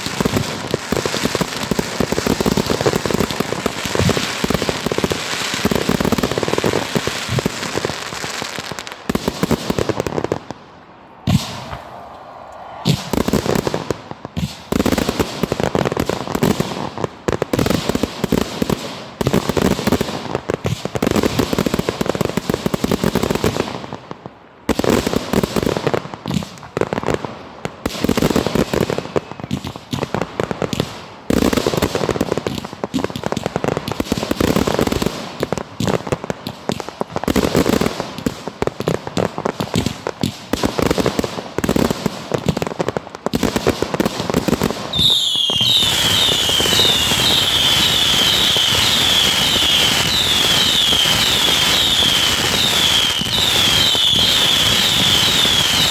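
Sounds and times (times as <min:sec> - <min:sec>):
fireworks crackling bursts: 0:00.0 - 0:12.0, 0:12.8 - 0:55.9.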